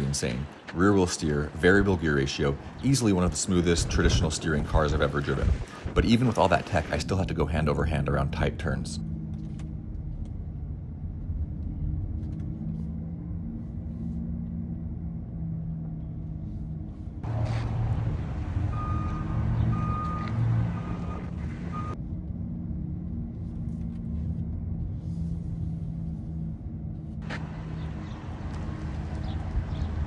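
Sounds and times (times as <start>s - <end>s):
low cabin hum: 0.0s - 30.0s
tyre and road rumble: 0.0s - 30.0s.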